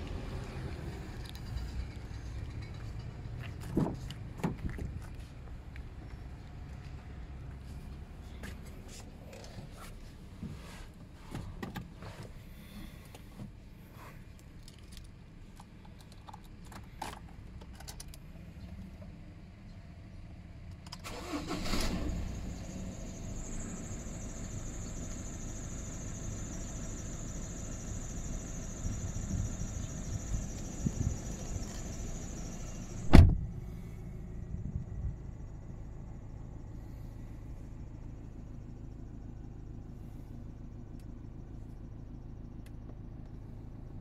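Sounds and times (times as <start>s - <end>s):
diesel engine starting and idling: 0.0s - 44.0s.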